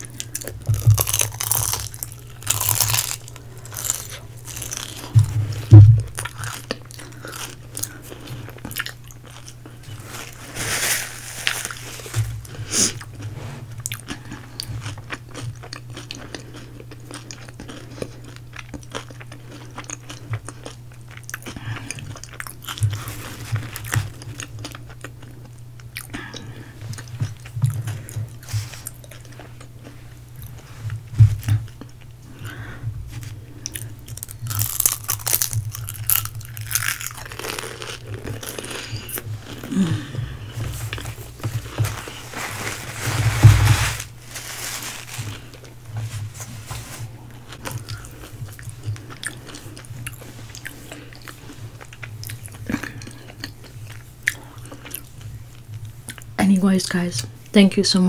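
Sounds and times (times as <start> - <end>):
chewing crispy fried food: 0.0 - 42.4, 44.1 - 56.4
steady low hum: 0.0 - 58.0.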